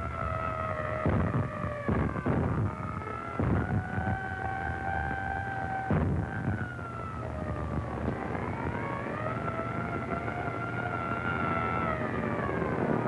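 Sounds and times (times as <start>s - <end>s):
air raid siren wailing: 0.0s - 13.0s.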